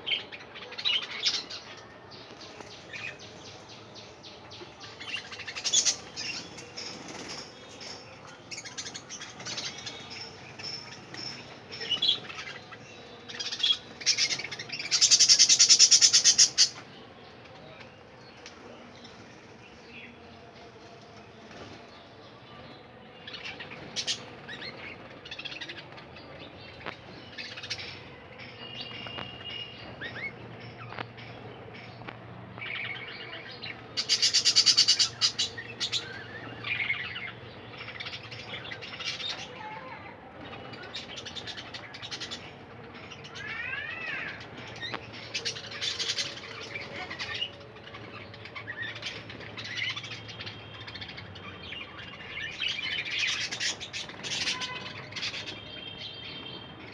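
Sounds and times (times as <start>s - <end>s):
budgerigars chirping and chattering: 0.1s - 17.4s, 22.6s - 56.9s.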